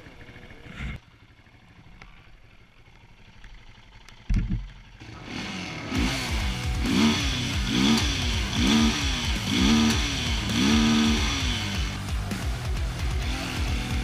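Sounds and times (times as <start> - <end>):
quad bike engine revving: 0.0 - 14.0.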